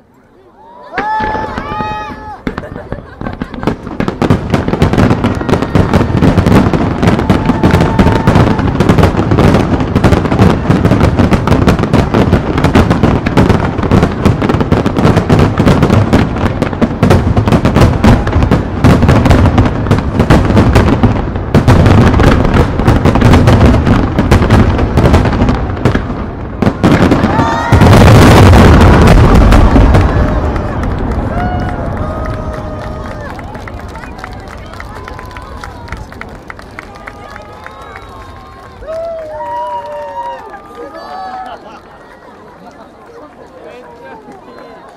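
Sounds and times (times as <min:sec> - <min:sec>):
fireworks bursting bangs: 0:01.0 - 0:41.9.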